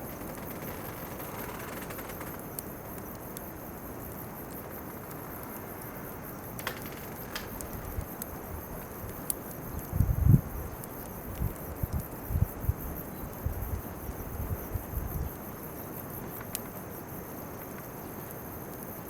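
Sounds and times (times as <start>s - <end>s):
bonfire hissing and popping: 0.0s - 19.0s
insects chirring: 0.0s - 19.0s.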